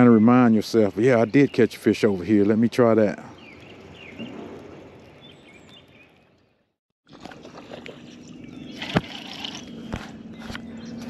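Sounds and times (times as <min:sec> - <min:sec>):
outdoor lake background: 0:00.0 - 0:11.0.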